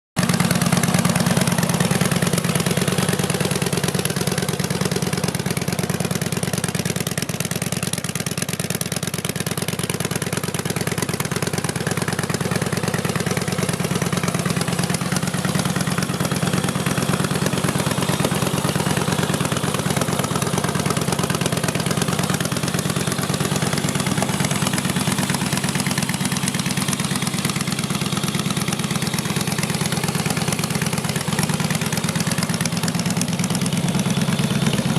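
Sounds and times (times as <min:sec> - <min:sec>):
v-twin motorcycle idling: 0:00.2 - 0:34.9.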